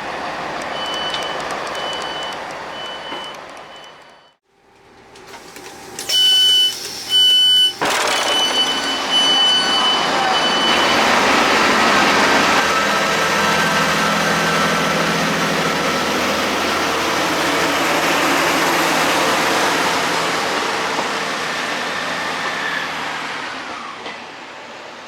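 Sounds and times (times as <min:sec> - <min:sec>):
diesel train pulling away: 0:00.0 - 0:25.0.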